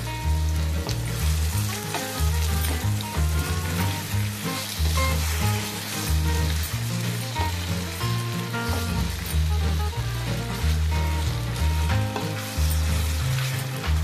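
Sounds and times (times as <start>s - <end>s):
food sizzling in hot oil: 0.0s - 14.0s
music with heavy bass: 0.0s - 14.0s
spatula stirring: 0.6s - 14.0s.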